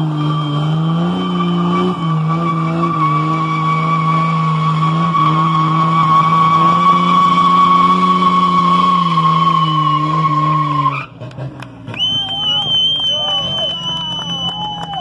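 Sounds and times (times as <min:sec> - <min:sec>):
car engine revving high: 0:00.0 - 0:15.0
tyre squealing on pavement: 0:00.0 - 0:15.0.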